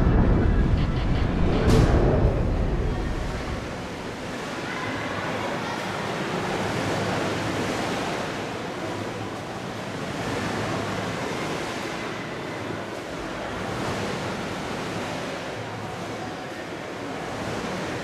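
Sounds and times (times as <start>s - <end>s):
waves rushing and splashing: 0.0s - 18.0s.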